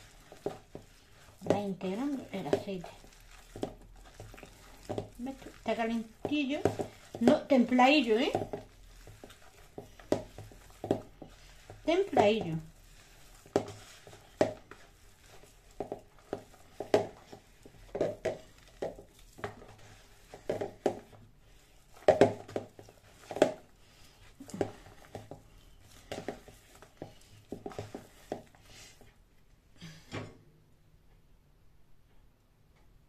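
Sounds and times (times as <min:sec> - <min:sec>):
dough knocking in plastic bowl: 0:00.0 - 0:21.3, 0:21.9 - 0:23.7, 0:24.3 - 0:28.6.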